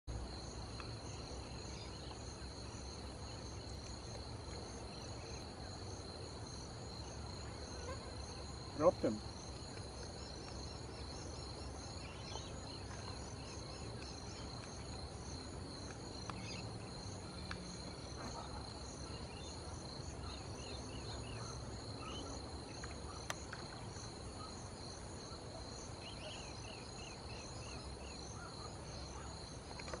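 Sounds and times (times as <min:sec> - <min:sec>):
insects trilling: 0:00.1 - 0:30.0.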